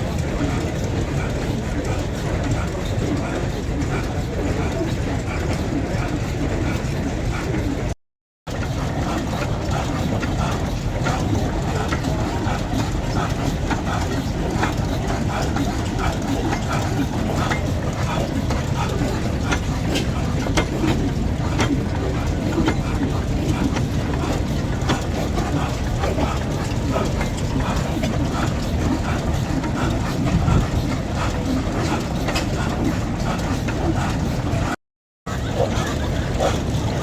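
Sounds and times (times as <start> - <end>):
machinery rumbling: 0.0 - 7.9, 8.5 - 37.0.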